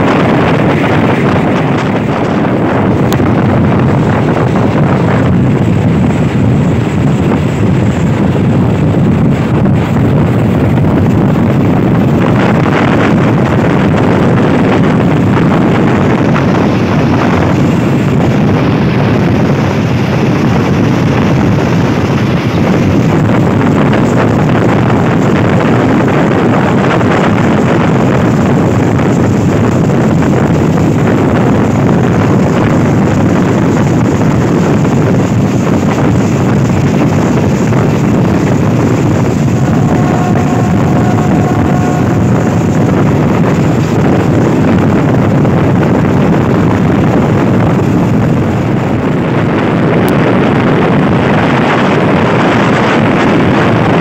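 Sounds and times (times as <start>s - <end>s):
train rumbling: 0.0s - 54.0s
wind on microphone: 0.0s - 54.0s.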